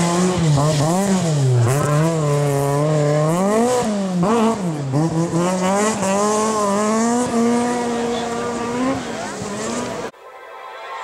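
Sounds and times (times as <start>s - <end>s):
rally car engine revving: 0.0s - 10.1s.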